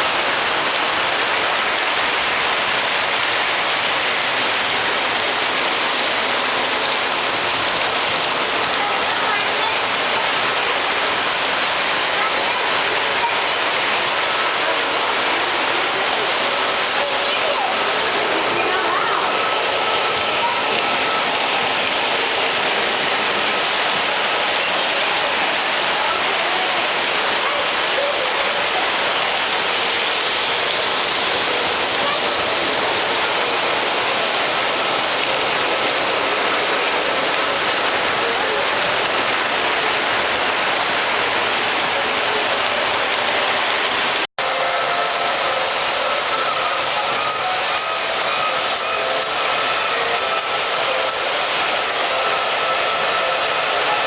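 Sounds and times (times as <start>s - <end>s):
crowd murmur: 0.0s - 54.0s.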